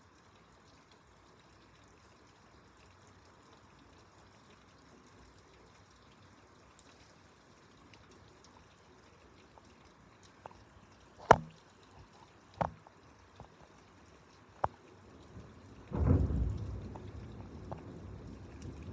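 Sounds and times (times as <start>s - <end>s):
faint rain hiss: 0.0s - 18.9s.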